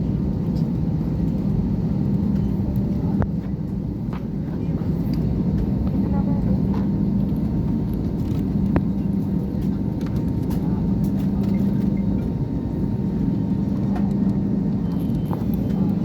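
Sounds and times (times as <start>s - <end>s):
jet engine drone in cabin: 0.0s - 16.0s.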